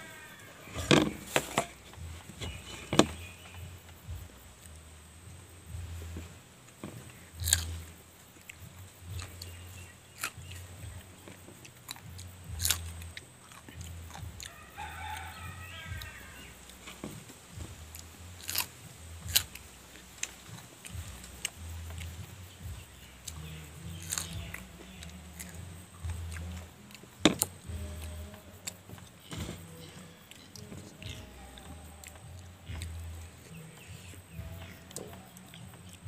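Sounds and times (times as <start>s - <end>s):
chillies crunching when chewed: 6.9s - 36.0s.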